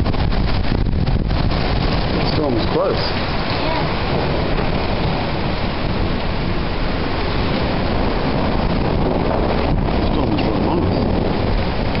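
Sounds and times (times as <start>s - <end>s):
rain falling: 0.0s - 12.0s
wind buffeting microphone: 0.0s - 12.0s.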